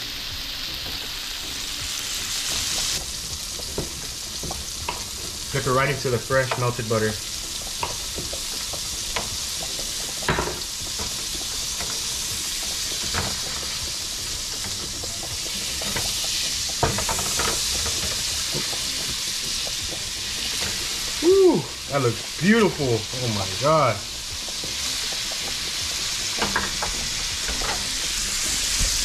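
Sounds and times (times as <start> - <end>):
fish sizzling in skillet: 0.0 - 29.0.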